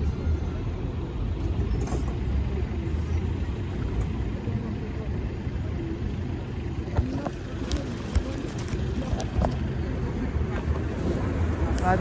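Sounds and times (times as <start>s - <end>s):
tram rumbling in motion: 0.0s - 12.0s.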